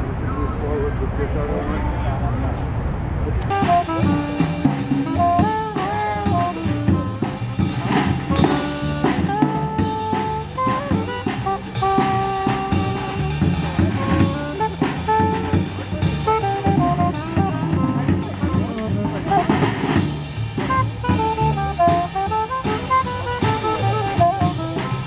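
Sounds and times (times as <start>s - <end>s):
drum kit with cymbals: 3.5s - 25.0s
saxophone melody: 3.5s - 25.0s
upright double bass: 3.5s - 25.0s.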